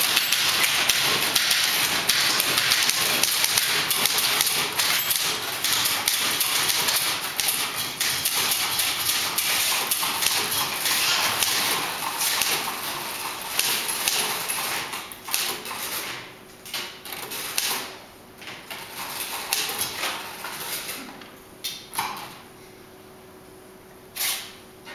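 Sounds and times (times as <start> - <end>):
typewriters clattering keystrokes: 0.0 - 21.0.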